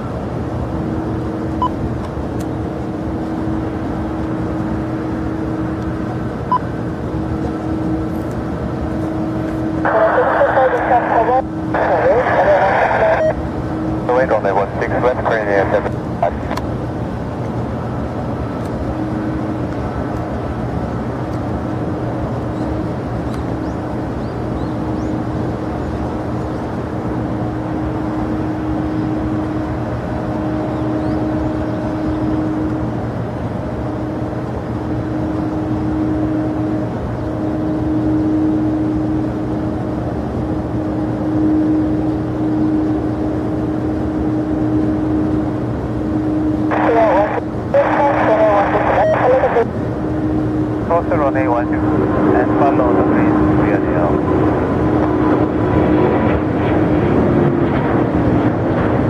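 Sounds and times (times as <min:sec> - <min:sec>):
jet aircraft engine rumble: 0:00.0 - 0:59.0.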